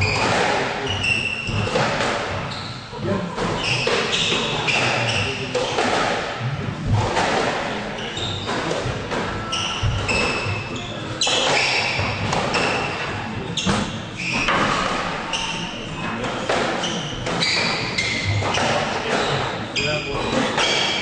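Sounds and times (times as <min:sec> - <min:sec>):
shoes squeaking on wooden floor: 0:00.0 - 0:02.8, 0:03.4 - 0:05.8, 0:08.0 - 0:21.0.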